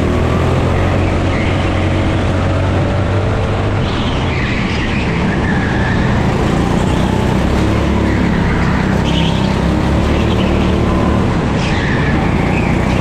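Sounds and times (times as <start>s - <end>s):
kart engine running hard: 0.0s - 13.0s.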